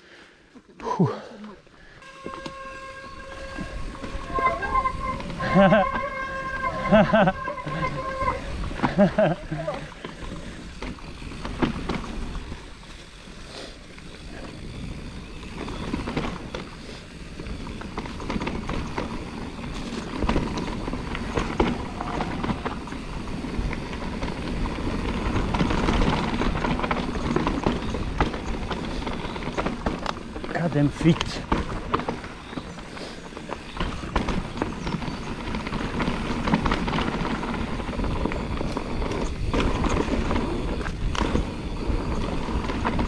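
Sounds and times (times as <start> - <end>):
bike tyres over dirt and rocks: 0.4 - 43.0
bike rattling and knocking: 2.1 - 43.0.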